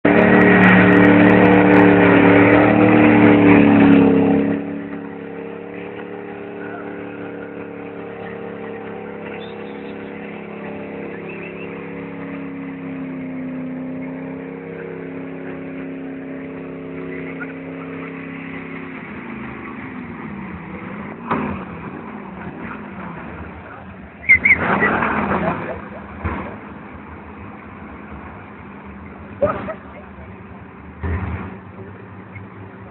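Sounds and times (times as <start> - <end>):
engine revving in burnout: 0.0 - 32.9.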